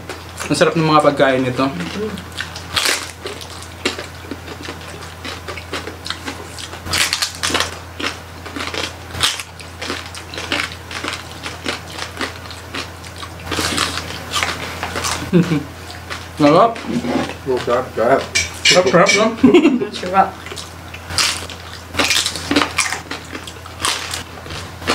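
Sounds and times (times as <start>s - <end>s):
crunching crispy pork skin: 1.8s - 18.4s, 20.5s - 24.9s.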